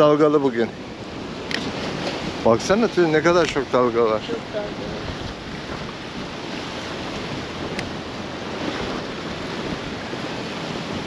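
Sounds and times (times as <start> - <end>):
sea waves breaking on shore: 0.0 - 11.0
wind buffeting microphone: 0.0 - 11.0.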